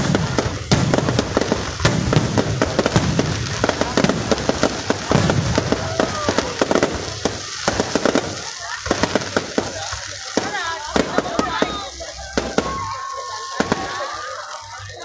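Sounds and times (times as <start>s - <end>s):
fireworks bursting with bangs and crackles: 0.0s - 15.0s.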